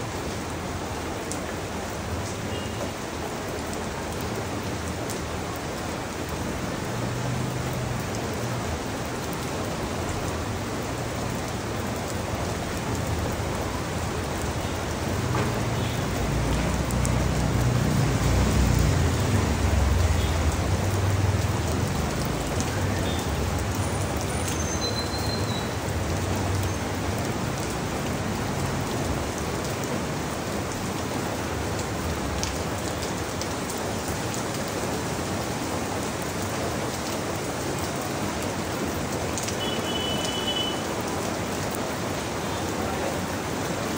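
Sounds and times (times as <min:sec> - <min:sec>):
rain on leaves: 0:00.0 - 0:43.9.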